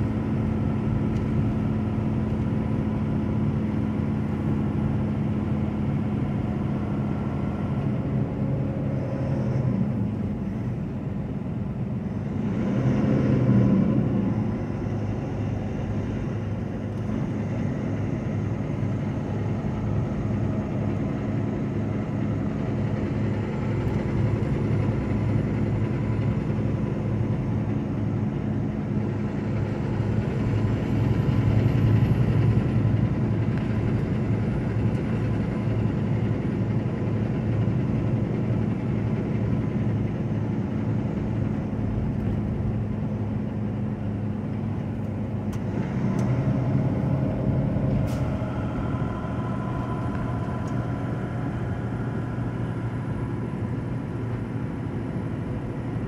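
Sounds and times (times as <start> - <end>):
diesel truck engine running: 0.0 - 56.0
tyre and road noise: 0.0 - 56.0.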